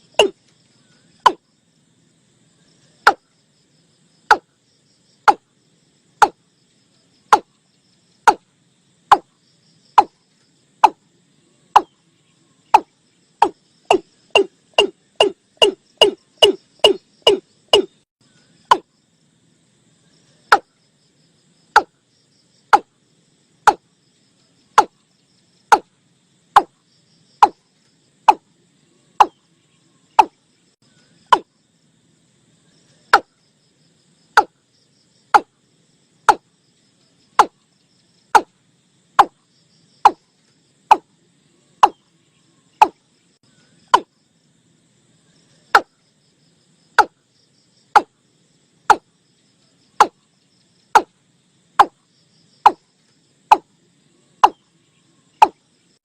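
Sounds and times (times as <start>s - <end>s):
faint insect or frog chorus: 0.0s - 56.0s.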